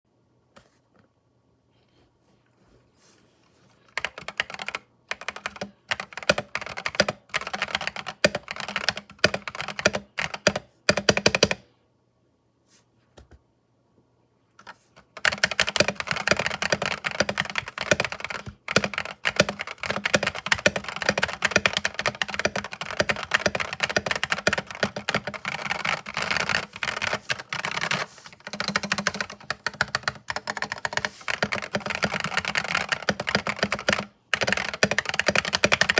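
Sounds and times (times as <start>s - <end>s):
mechanical keyboard typing: 3.9s - 11.6s, 14.6s - 35.9s.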